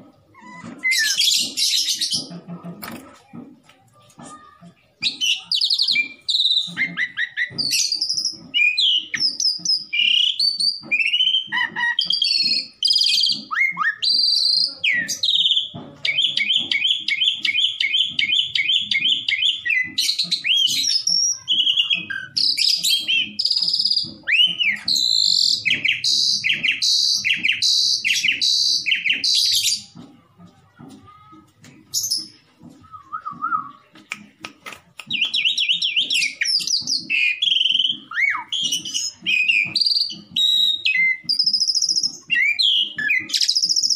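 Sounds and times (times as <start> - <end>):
starling singing: 0.0 - 3.2, 4.2 - 30.1, 31.8 - 43.9.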